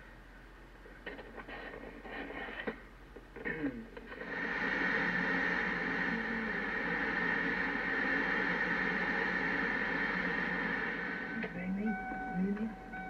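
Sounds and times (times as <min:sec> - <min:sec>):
static-like hiss with high tone: 0:00.0 - 0:13.0.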